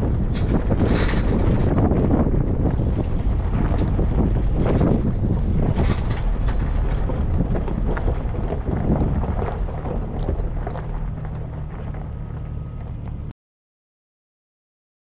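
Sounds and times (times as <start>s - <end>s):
wind on microphone: 0.0s - 12.7s
engine and tyre rumble: 0.0s - 13.3s
stones crunching under tyres: 0.0s - 13.3s.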